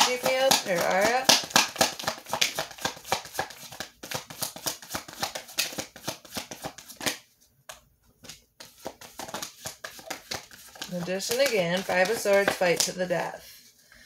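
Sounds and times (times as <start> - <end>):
cards being shuffled by hand: 0.0 - 13.7.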